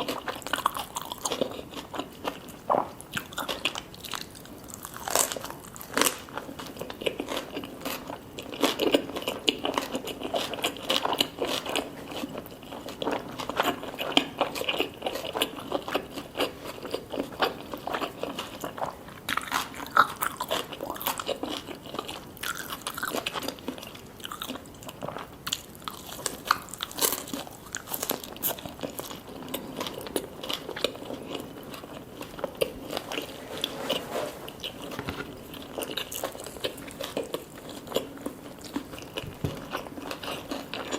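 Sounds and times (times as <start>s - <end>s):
person chewing and biting food: 0.0s - 40.9s.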